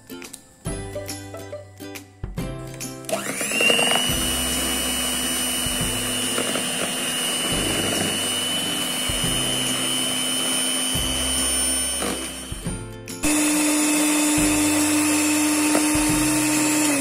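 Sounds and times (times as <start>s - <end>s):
stand mixer motor whine: 3.0s - 17.0s.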